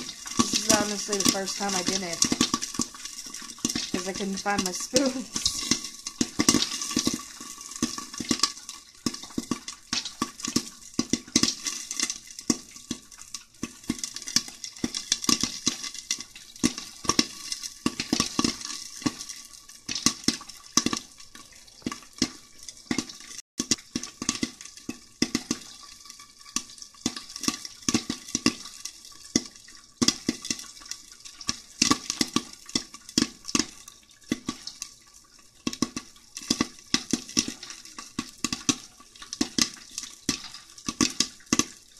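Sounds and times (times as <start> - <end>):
popcorn popping in pan: 0.0 - 41.9.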